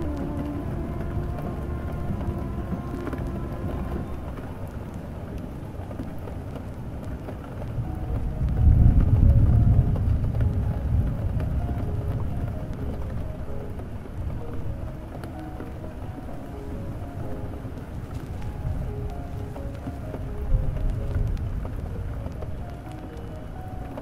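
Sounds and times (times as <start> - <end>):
faint music: 0.0 - 24.0
steady rain: 0.0 - 24.0
thunder rolling: 0.0 - 24.0.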